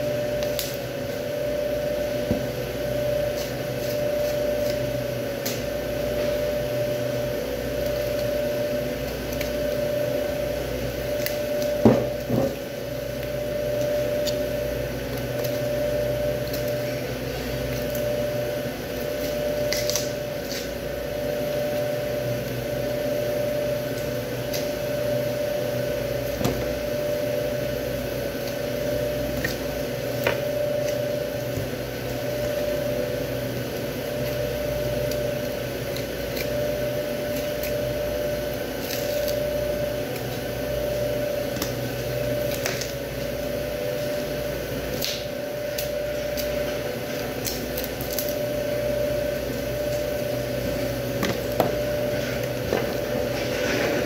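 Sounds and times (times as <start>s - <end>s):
mechanical equipment hum: 0.0s - 54.0s.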